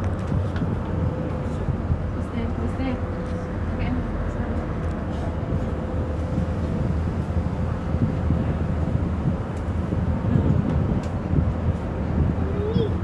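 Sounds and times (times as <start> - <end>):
mid-pitched machinery hum: 0.0 - 13.0
ship engines rumbling: 0.0 - 13.0.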